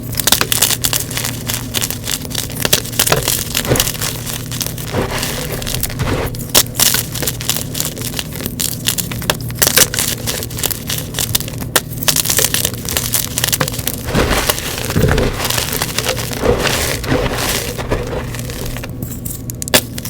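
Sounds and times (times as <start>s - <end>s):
chalk crunching by hand: 0.0s - 20.0s
steady low hum: 0.0s - 20.0s.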